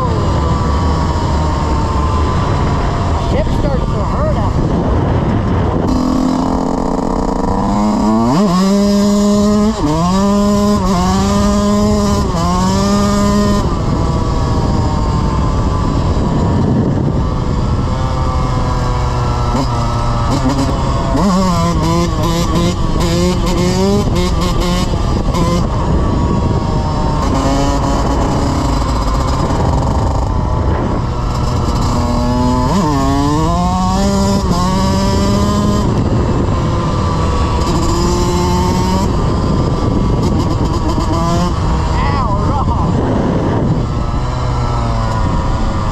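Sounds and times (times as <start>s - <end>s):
dirt bike engine accelerating: 0.0s - 45.9s.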